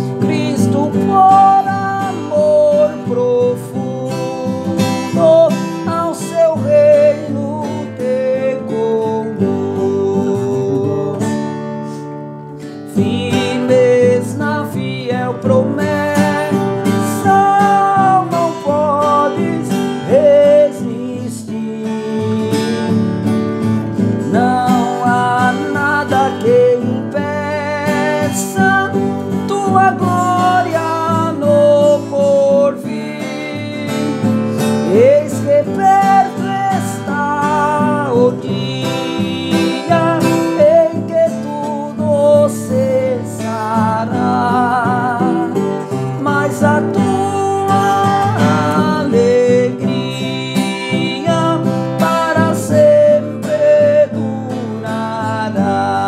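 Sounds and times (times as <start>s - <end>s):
man singing a hymn: 0.0s - 12.0s, 12.6s - 56.0s
strummed classical guitar: 0.0s - 56.0s.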